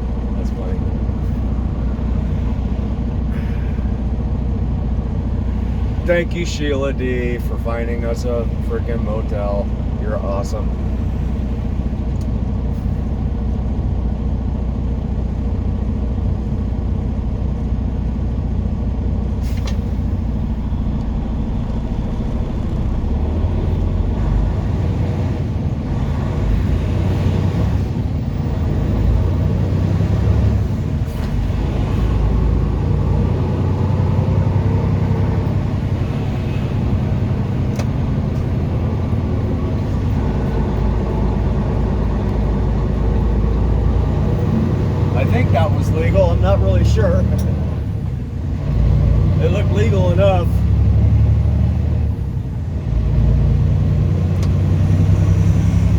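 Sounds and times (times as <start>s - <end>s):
road noise: 0.0s - 55.9s
truck engine rumble: 0.0s - 55.9s.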